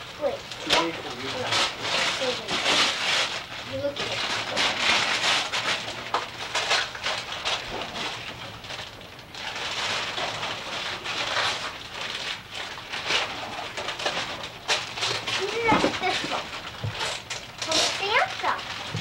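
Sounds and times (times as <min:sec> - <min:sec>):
wrapping paper rustling and tearing: 0:00.0 - 0:19.0.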